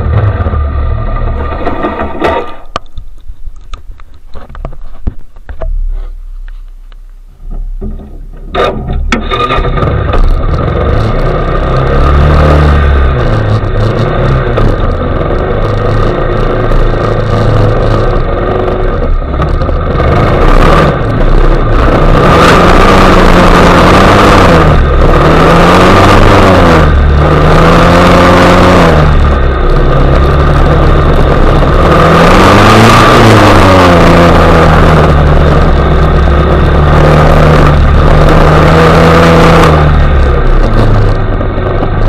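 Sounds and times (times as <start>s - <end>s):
atv engine running: 0.0s - 6.6s, 7.3s - 42.0s.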